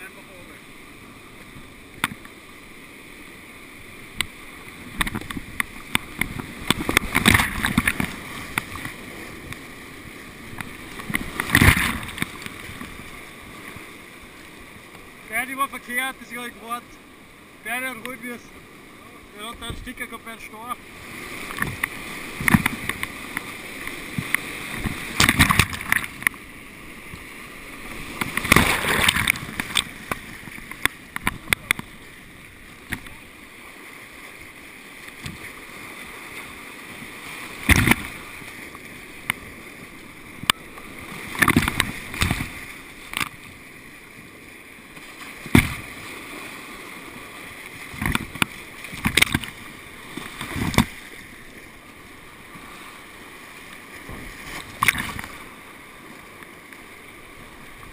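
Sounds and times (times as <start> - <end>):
paddle splashes: 0.0 - 57.9
whitewater rushing: 0.0 - 57.9.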